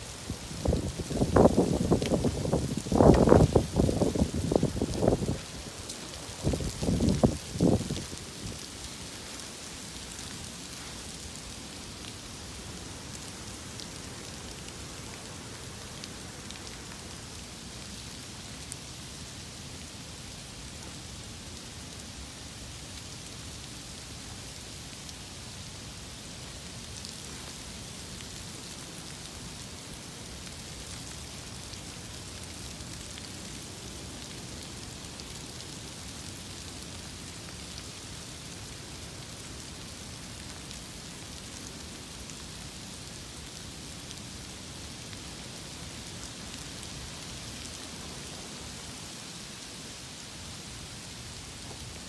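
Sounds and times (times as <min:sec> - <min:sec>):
freezing rain on grass and leaves: 0:00.0 - 0:52.0.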